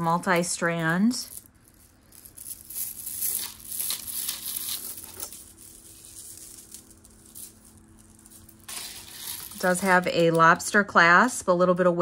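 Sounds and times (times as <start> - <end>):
plastic jewelry clattering: 0.0 - 10.6.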